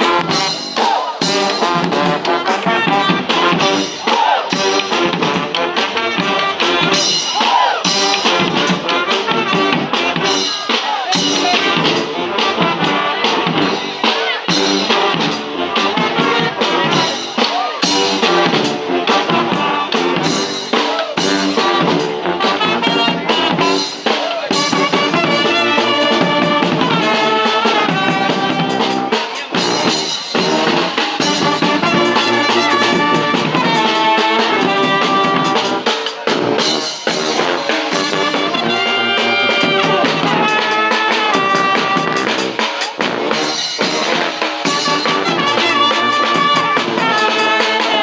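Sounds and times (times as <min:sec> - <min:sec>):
brass band playing: 0:00.0 - 0:48.0
steady drum beat: 0:00.0 - 0:48.0.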